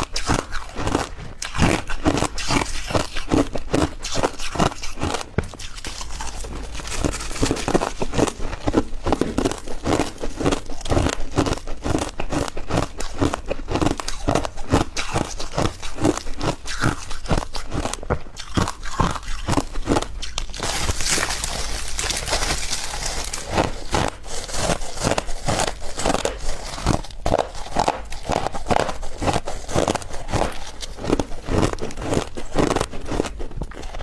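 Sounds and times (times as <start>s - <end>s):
crushed ice being chewed: 0.0s - 34.0s.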